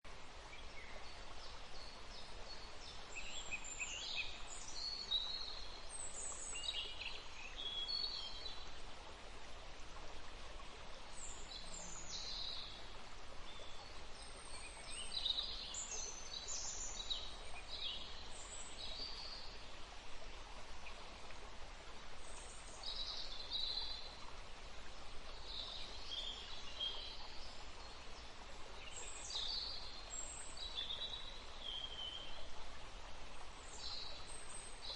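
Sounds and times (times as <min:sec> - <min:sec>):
songbirds chirping: 0:00.0 - 0:34.9
stream running: 0:00.1 - 0:34.9.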